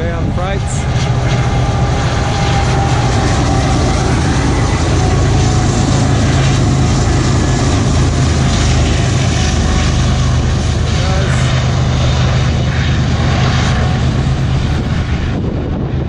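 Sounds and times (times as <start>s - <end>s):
diesel locomotives droning: 0.0s - 16.0s.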